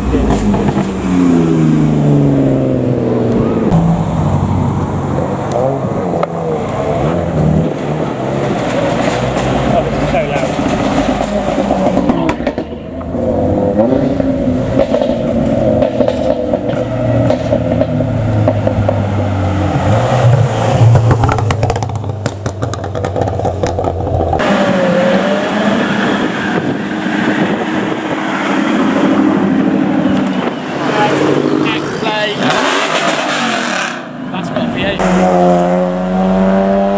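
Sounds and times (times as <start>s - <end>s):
car engines revving past: 0.0s - 36.9s.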